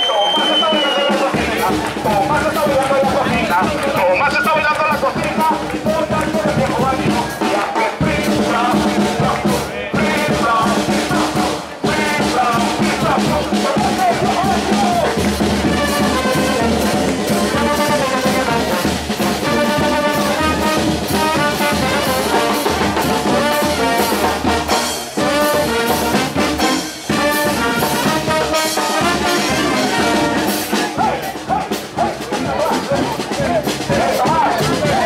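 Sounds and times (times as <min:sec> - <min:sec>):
brass band playing lively tune: 0:00.0 - 0:35.0.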